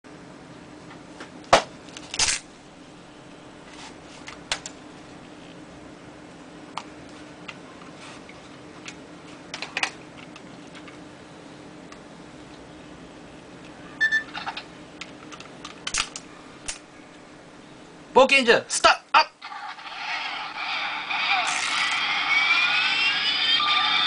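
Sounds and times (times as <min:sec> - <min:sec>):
steady low hum: 0:00.1 - 0:18.3, 0:19.0 - 0:24.0.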